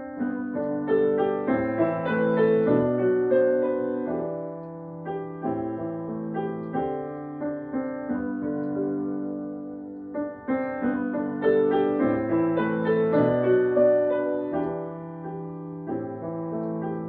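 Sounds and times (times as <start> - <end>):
solo piano piece: 0.0 - 17.0.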